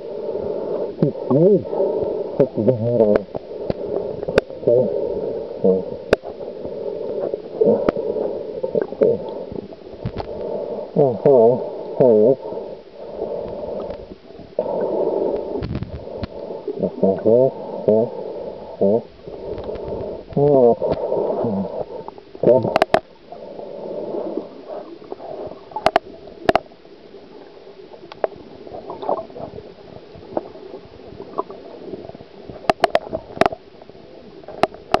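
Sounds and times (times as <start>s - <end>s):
underwater gurgling and rumbling: 0.0s - 35.0s.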